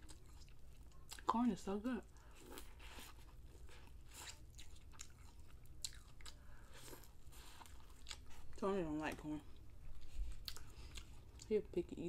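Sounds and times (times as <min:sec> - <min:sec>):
chewing corn on the cob: 0:00.0 - 0:08.6, 0:09.5 - 0:11.6.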